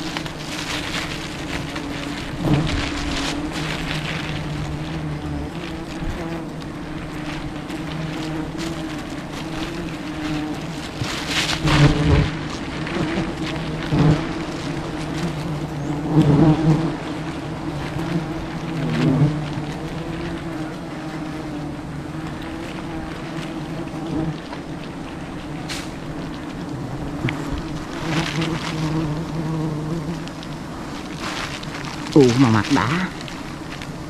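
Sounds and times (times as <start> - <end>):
bees buzzing: 0.0 - 34.0.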